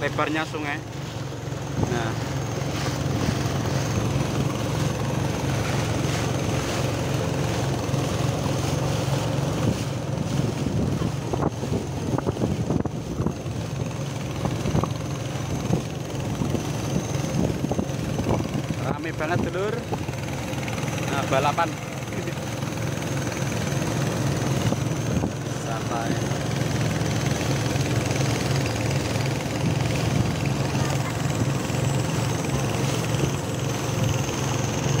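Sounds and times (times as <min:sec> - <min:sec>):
outboard motor running: 0:00.0 - 0:35.0
water splashing against hull: 0:00.0 - 0:35.0.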